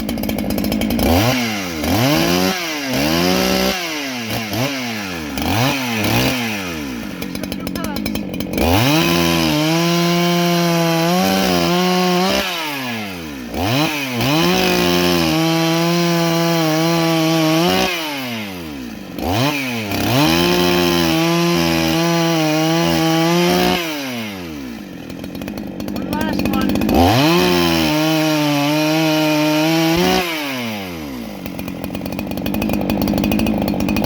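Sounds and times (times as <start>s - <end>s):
chainsaw cutting lumber: 0.0s - 34.0s.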